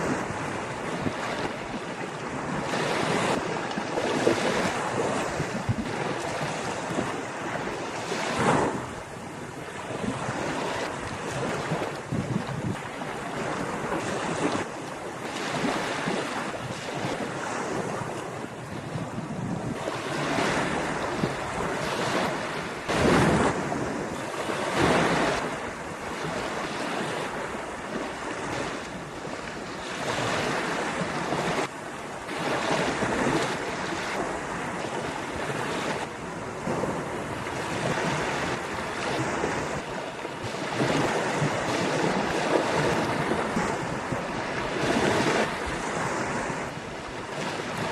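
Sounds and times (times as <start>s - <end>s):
ocean surf breaking: 0.0s - 47.9s
wind buffeting microphone: 0.0s - 47.9s.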